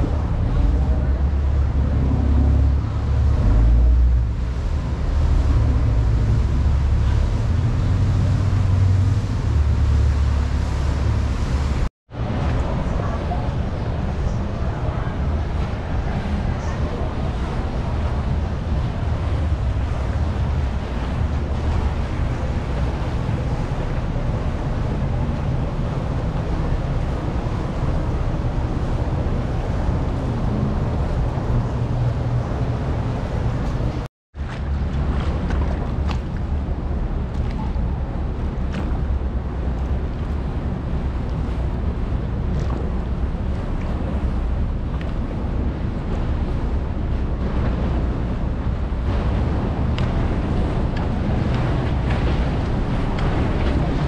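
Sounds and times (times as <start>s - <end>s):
boat engines rumbling: 0.0s - 54.0s
waves washing: 0.0s - 54.0s
wind buffeting microphone: 0.0s - 54.0s.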